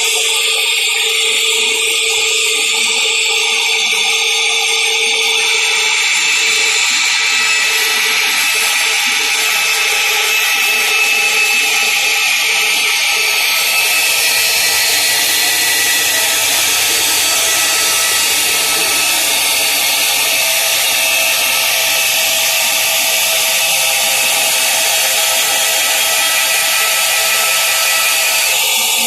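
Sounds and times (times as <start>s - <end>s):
band saw running: 0.0s - 29.0s.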